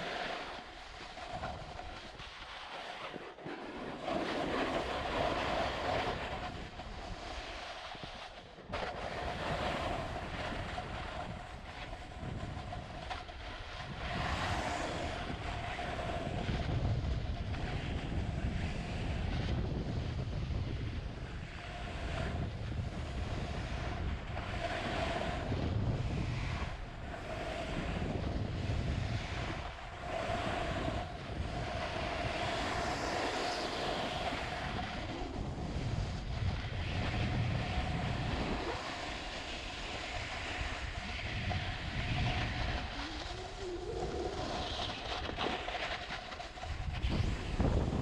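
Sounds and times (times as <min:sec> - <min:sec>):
skis scraping over packed snow: 0:00.0 - 0:48.0
wind rushing over microphone: 0:00.0 - 0:48.0.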